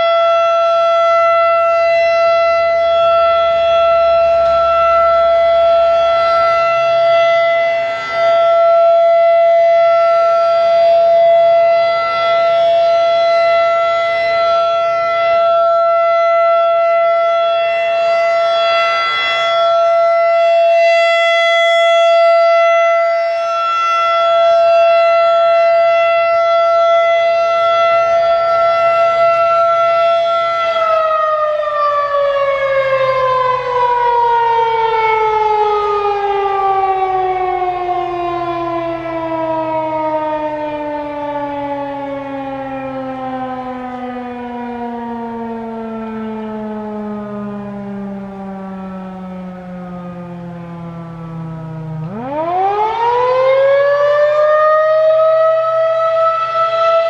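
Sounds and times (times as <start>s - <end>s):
rotating siren: 0.0s - 57.0s.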